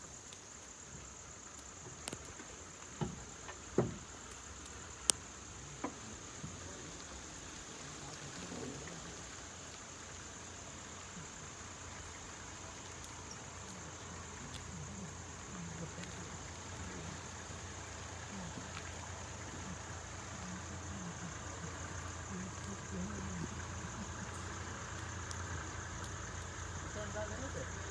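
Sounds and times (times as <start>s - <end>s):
high-pitched insect chorus: 0.0s - 27.9s.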